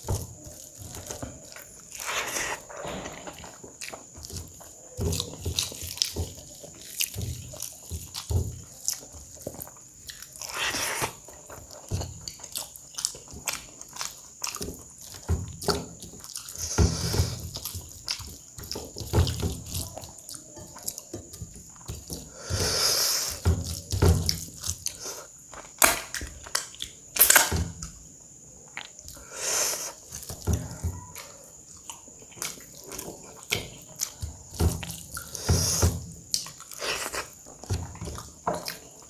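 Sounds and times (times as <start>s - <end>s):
person chewing food: 0.0s - 27.2s, 27.8s - 39.0s.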